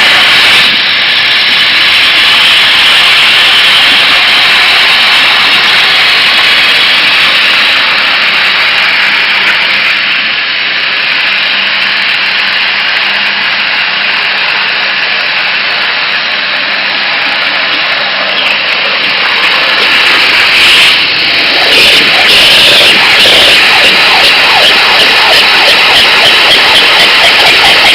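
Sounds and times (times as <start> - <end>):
water jet cutting hiss: 0.0 - 10.3, 15.6 - 27.9.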